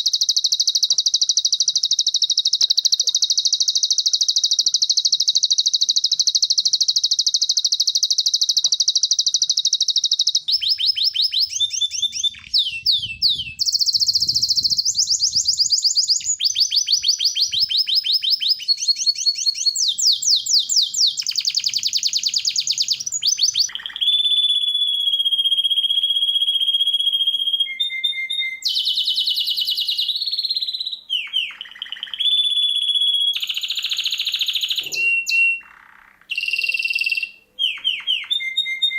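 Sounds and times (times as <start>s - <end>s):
songbird trilling: 0.0s - 24.4s, 27.7s - 38.9s
bird long steady whistle: 0.0s - 38.9s.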